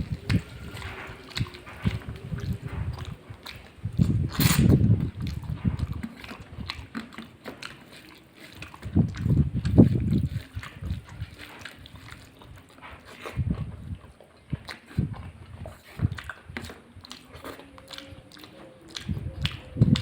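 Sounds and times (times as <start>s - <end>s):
mouth smacks and clicks: 0.0s - 20.0s
wet chewing and mouth sounds: 0.0s - 20.0s.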